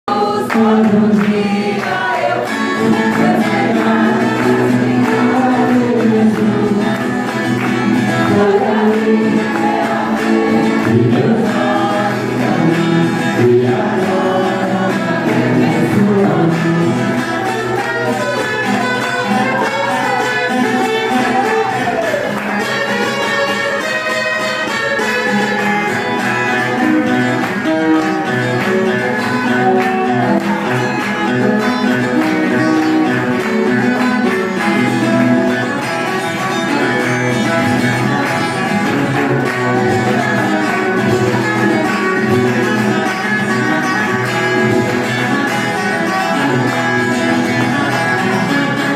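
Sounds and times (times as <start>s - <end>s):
guitar playing hymn melody: 0.1s - 48.9s.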